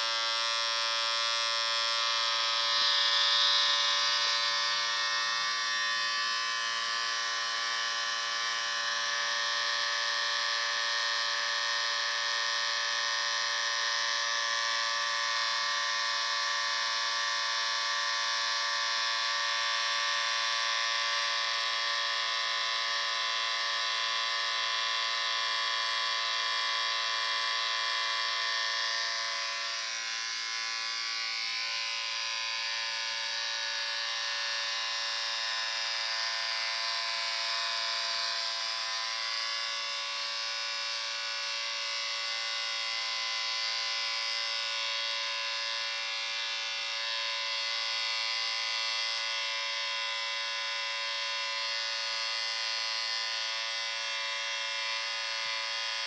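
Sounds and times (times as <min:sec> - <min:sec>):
electric shaver buzzing: 0:00.0 - 0:56.0.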